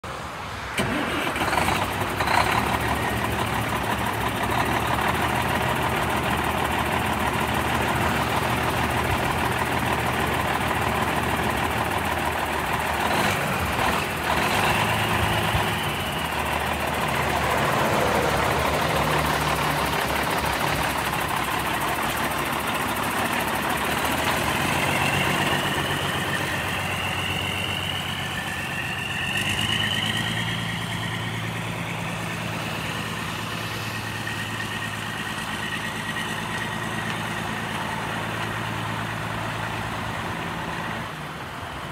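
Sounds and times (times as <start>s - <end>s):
diesel truck engine: 0.0s - 41.9s.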